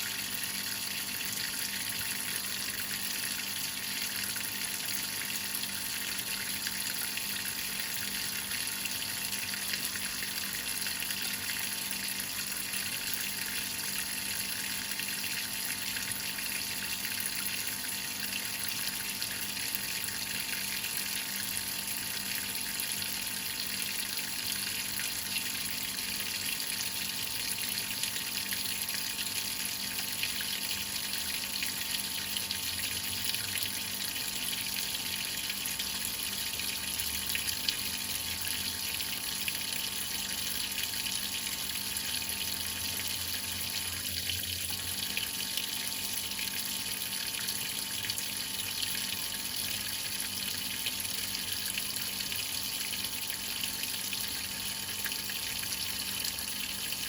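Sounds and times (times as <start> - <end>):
water filling washing machine tub: 0.0 - 57.0.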